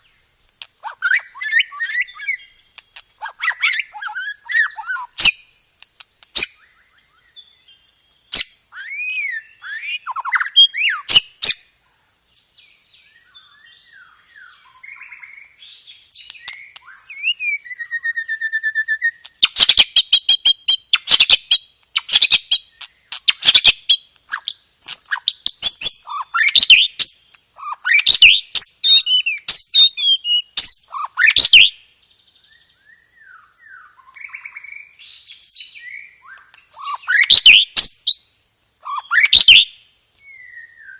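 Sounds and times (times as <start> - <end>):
songbird whistling: 0.8 - 5.5, 6.3 - 11.6, 13.0 - 31.8, 32.4 - 40.9.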